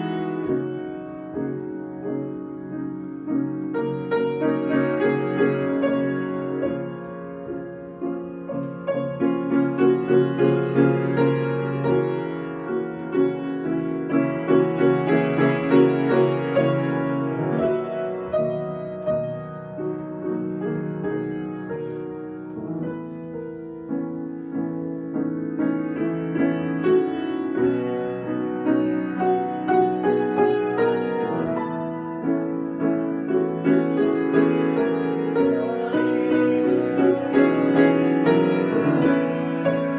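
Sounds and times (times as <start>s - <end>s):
solo piano: 0.0s - 39.9s.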